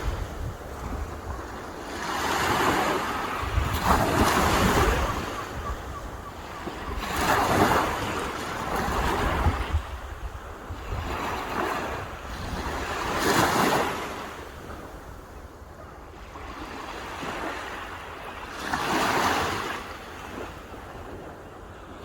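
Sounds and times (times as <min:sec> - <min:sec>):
waves breaking on shore: 0:00.0 - 0:22.0.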